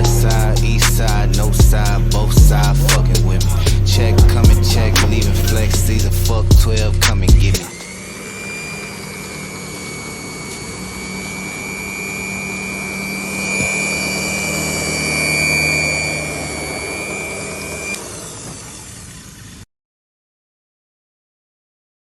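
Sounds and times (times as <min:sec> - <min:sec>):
electric motor whining: 0:00.0 - 0:19.6.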